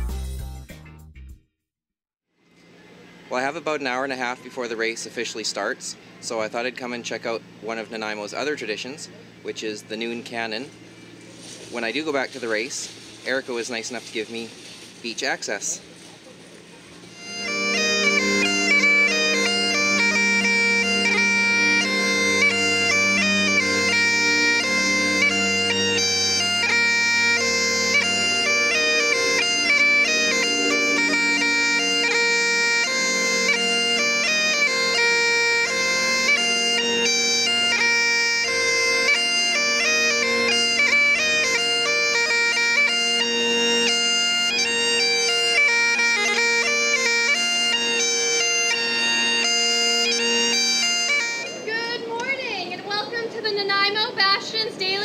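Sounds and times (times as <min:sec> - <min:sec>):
bagpipe drones: 0:02.7 - 0:55.0
bagpipe chanter melody: 0:03.4 - 0:53.9.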